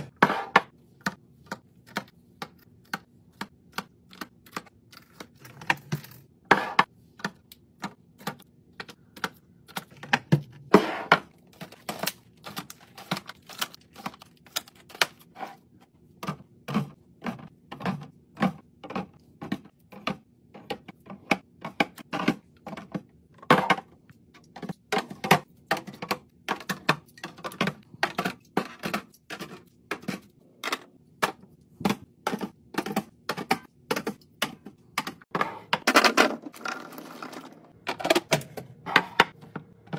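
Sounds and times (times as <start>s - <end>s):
food containers clicking and knocking: 0.0s - 39.9s.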